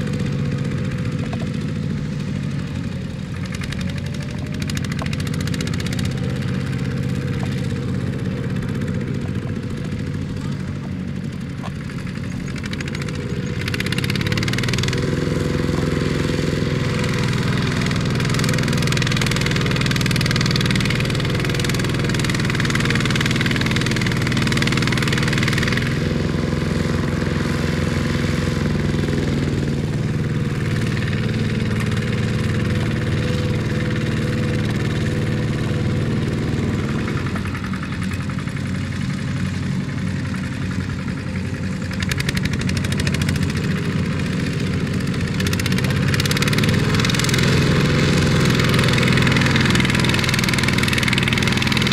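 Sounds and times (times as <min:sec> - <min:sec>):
diesel tractor engine straining: 0:00.0 - 0:51.9.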